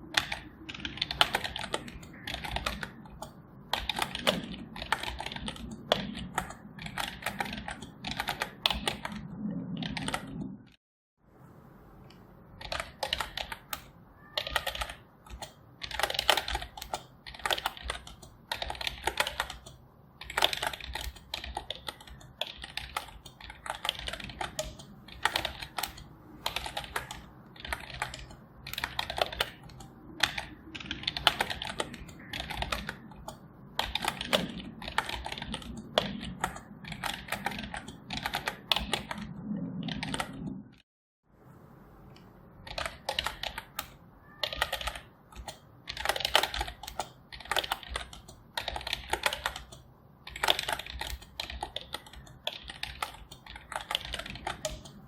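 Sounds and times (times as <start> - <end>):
keyboard typing: 0.0 - 10.8, 12.0 - 40.8, 42.1 - 55.0.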